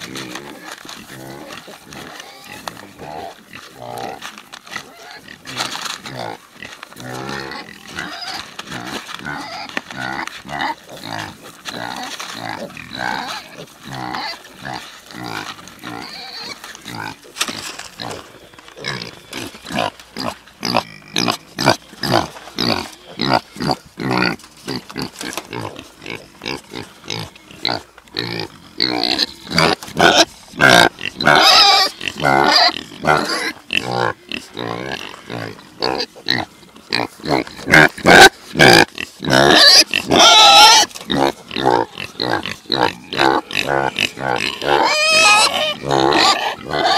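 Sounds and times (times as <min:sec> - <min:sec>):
pigs grunting: 0:00.0 - 0:46.9.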